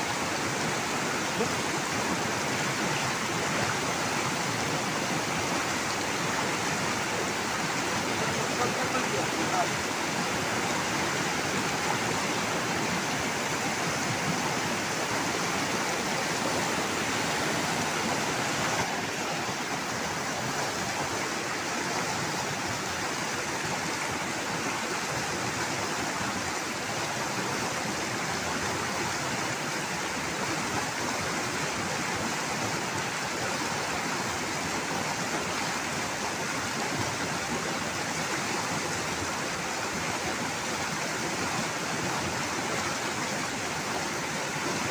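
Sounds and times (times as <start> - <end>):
river water rushing over rocks: 0.0 - 44.9.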